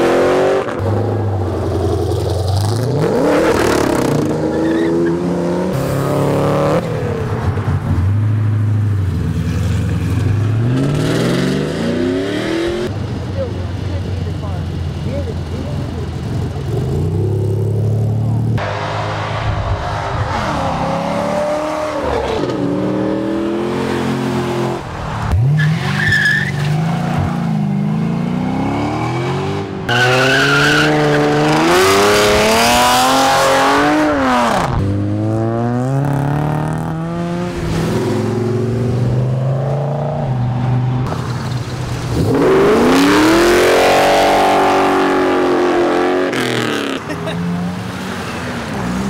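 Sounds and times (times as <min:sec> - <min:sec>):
car engines revving hard: 0:00.0 - 0:08.0, 0:09.1 - 0:13.1, 0:14.2 - 0:49.0.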